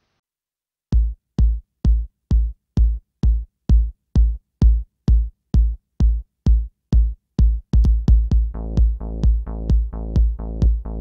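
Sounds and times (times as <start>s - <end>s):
drum machine kick drum: 0.9s - 11.0s.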